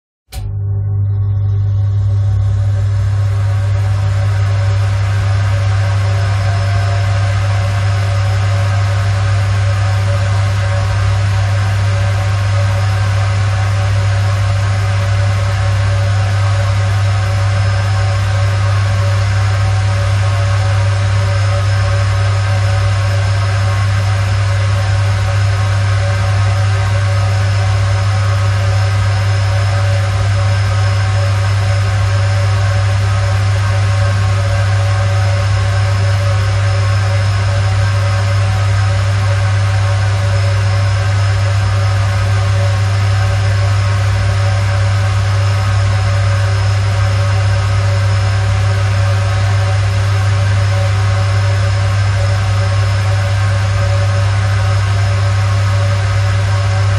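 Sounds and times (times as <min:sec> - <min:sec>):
electric fan humming: 0:00.3 - 0:56.9.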